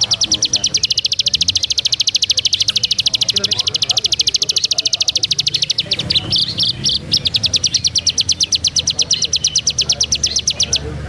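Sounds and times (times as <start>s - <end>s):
songbird trilling: 0.0s - 11.0s.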